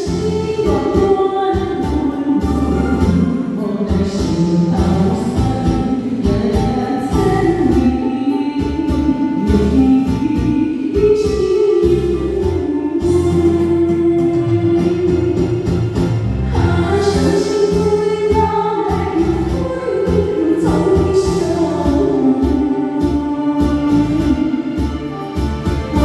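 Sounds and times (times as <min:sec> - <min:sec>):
pop song singing over beat: 0:00.0 - 0:26.0.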